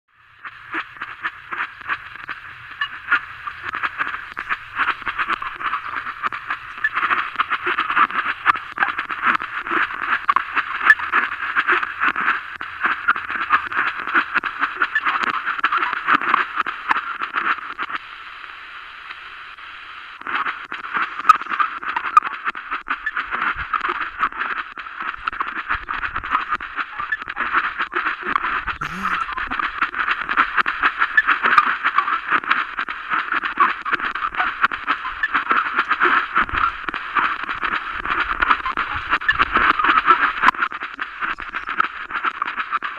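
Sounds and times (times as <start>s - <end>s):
radio crackling and sputtering: 0.4s - 18.0s, 20.2s - 42.9s.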